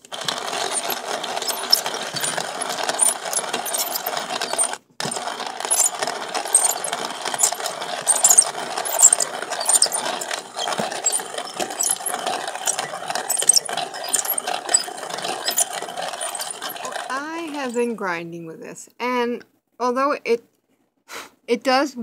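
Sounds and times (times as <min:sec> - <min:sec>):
coffee grinder crunching beans: 0:00.0 - 0:18.0.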